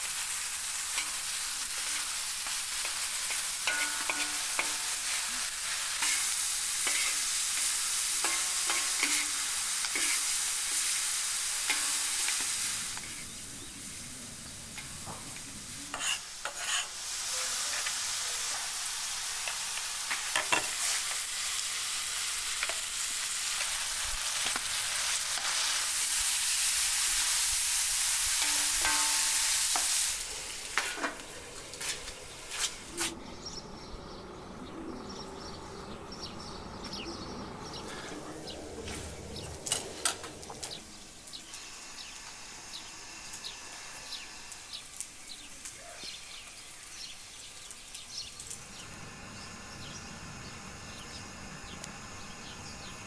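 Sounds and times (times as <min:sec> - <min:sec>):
food sizzling in a frying pan: 0:00.0 - 0:33.1, 0:37.9 - 0:53.0.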